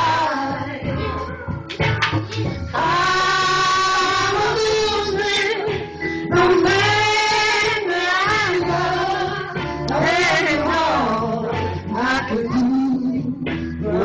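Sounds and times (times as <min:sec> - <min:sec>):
woman singing with vibrato: 0:00.0 - 0:01.6, 0:02.7 - 0:14.0
instrumental backing: 0:00.0 - 0:14.0.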